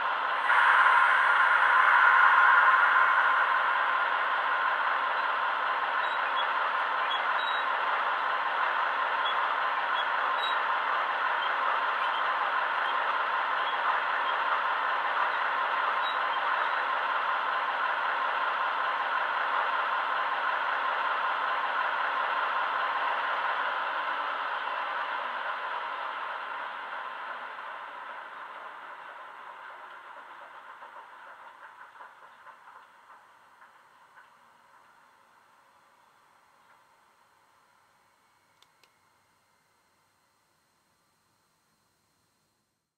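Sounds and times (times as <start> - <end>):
diesel locomotive engine from small speaker: 0.0 - 40.6.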